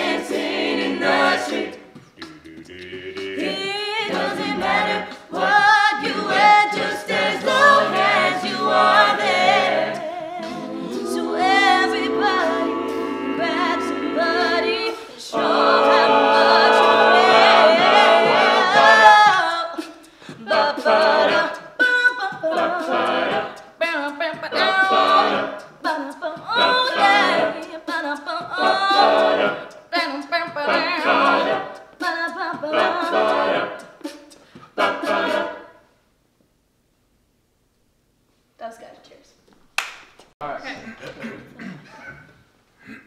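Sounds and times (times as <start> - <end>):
a cappella group singing in harmony: 0.0 - 35.9.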